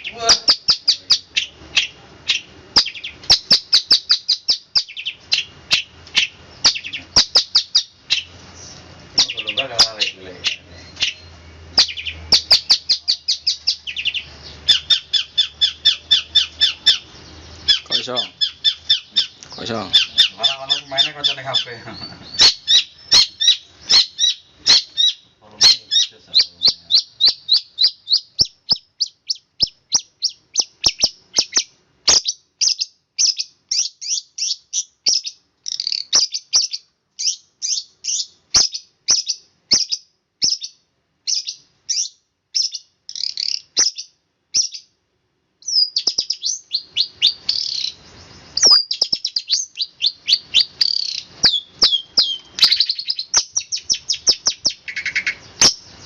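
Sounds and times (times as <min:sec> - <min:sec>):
bird singing high chirps: 0:00.0 - 0:45.0, 0:45.6 - 0:56.0.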